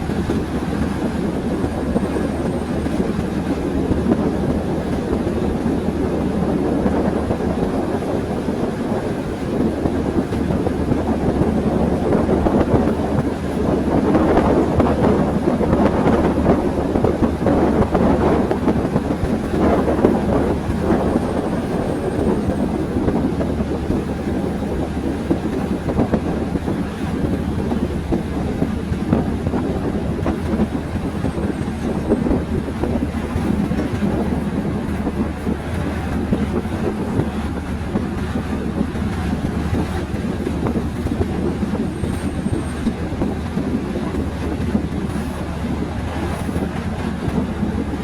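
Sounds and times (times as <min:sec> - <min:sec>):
train wheels on track: 0:00.0 - 0:48.0.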